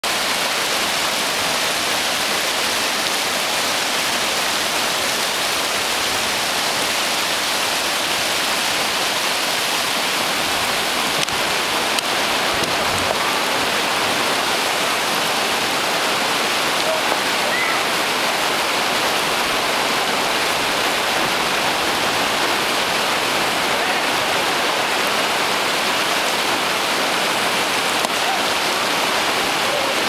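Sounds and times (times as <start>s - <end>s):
river rapids rushing: 0.0s - 30.0s.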